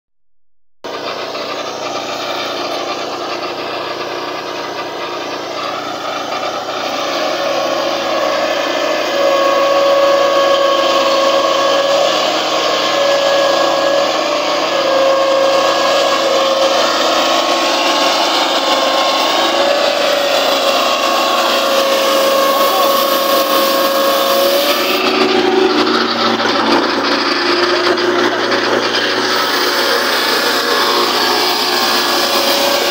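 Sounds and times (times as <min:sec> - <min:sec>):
sawmill engine running: 0:00.8 - 0:32.9
saw blade whine: 0:00.9 - 0:32.9.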